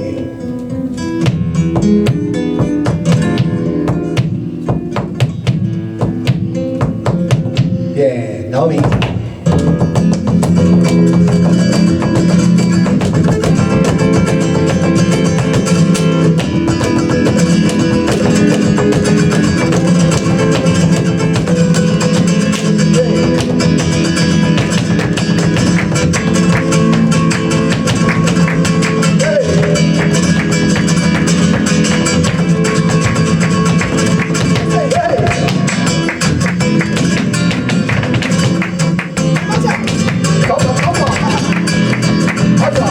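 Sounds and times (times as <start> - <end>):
flamenco guitar: 0.0 - 42.9.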